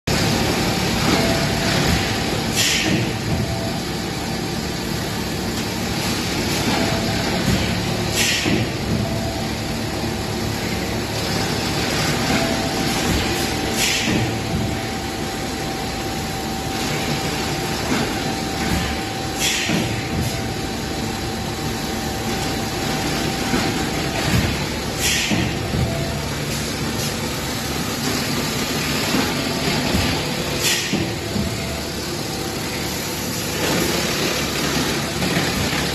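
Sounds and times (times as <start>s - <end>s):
production line mechanical hum: 0.0s - 35.9s.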